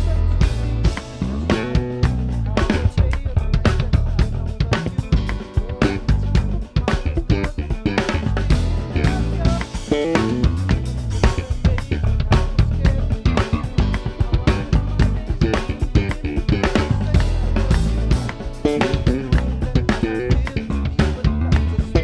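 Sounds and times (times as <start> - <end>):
band playing: 0.0 - 22.0
fast bass drum and snare strokes: 0.0 - 22.0.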